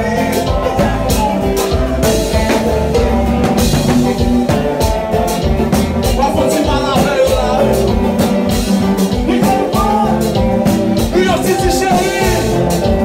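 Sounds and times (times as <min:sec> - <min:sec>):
drum beat: 0:00.0 - 0:13.0
live band music: 0:00.0 - 0:13.0
person singing: 0:00.0 - 0:13.0.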